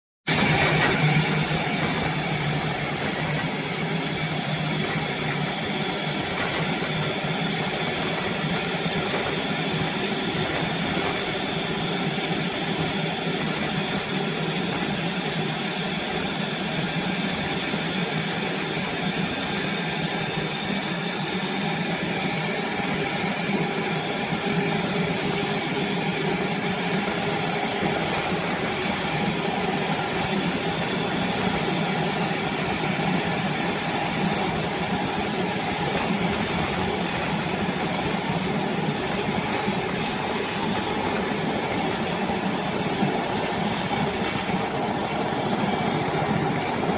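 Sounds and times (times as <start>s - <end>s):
helicopter turbine engine whine: 0.3s - 46.9s.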